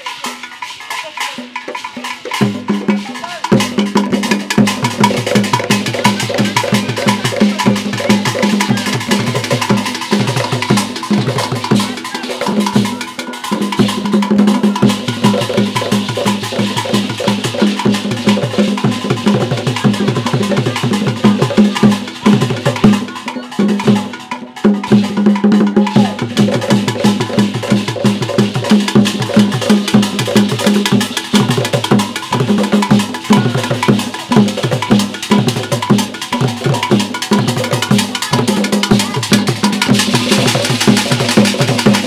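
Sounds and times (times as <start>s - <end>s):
drum ensemble playing fast rhythm: 0.0s - 42.0s.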